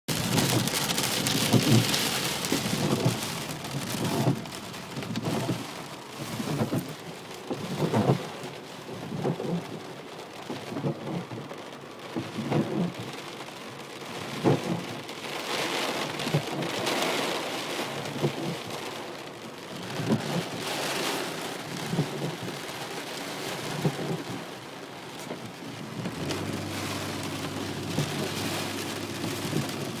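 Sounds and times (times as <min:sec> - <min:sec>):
heavy rain pouring: 0:00.1 - 0:30.0.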